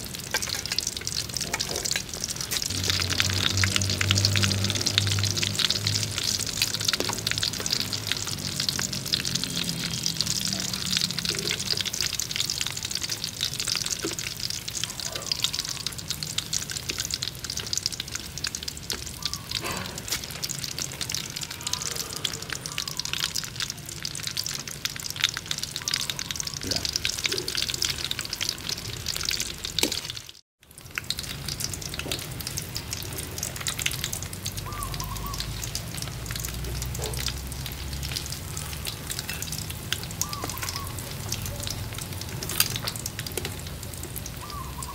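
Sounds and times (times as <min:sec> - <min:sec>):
oil crackling sizzle: 0:00.0 - 0:44.9.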